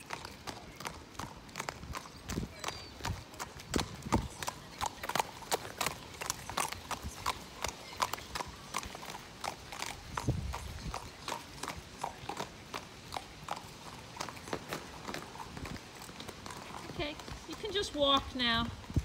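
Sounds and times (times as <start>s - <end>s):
horse hooves on wet asphalt: 0.0s - 19.0s.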